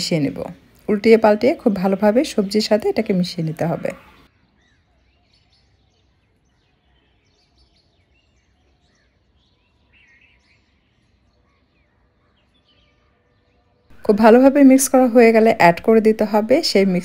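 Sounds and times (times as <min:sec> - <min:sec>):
faint bird chirps: 0:01.6 - 0:15.4.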